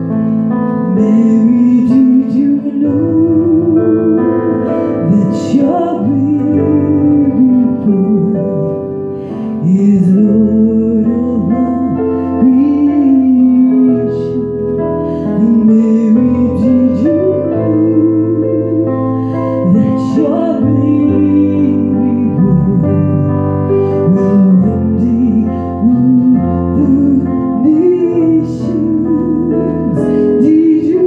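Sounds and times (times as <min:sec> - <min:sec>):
digital piano chords: 0:00.0 - 0:31.0
person singing slow melody: 0:00.0 - 0:31.0.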